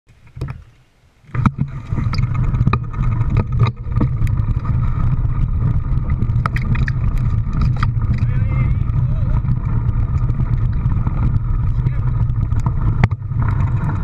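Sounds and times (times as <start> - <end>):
vehicle engine rumble: 1.3 - 14.0
knocks and rattles: 1.4 - 14.0.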